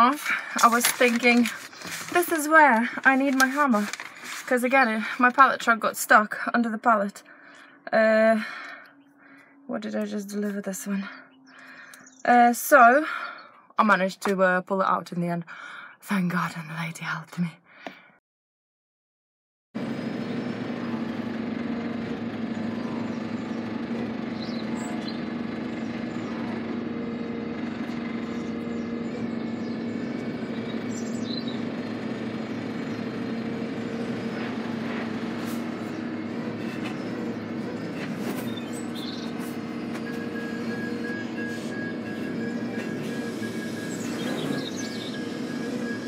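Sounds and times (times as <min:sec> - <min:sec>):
diesel engine idling: 0:00.0 - 0:12.2, 0:19.8 - 0:46.0.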